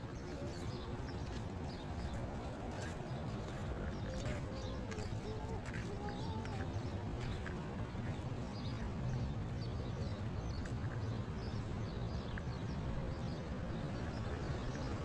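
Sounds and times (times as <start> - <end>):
small birds chirping: 0.0 - 15.0
traffic rumble: 0.0 - 15.0
wind: 0.0 - 15.0.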